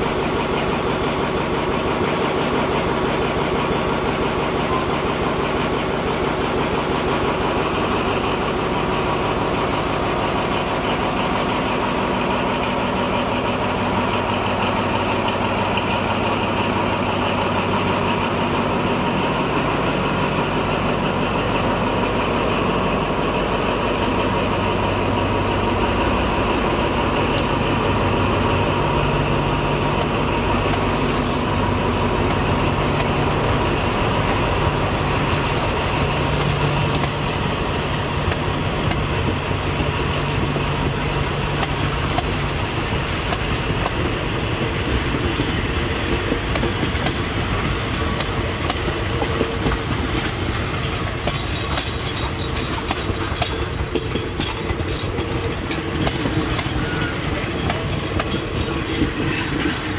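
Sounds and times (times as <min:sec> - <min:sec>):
locomotive engine running: 0:00.0 - 0:59.9
train coaches rolling past: 0:00.0 - 0:59.9.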